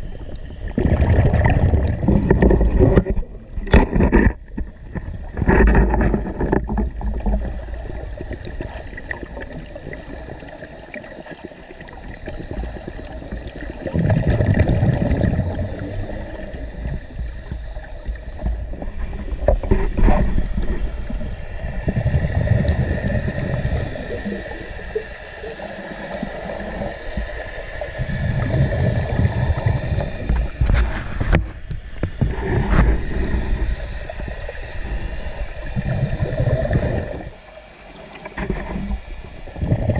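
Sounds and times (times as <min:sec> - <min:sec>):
underwater exhaled bubbles rumbling: 0:00.0 - 0:39.9.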